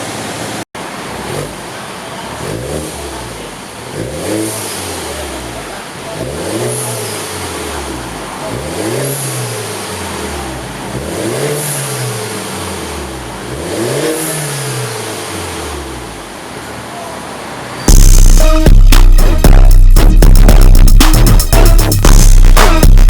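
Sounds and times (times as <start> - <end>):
car engine revving: 0.1 - 23.0.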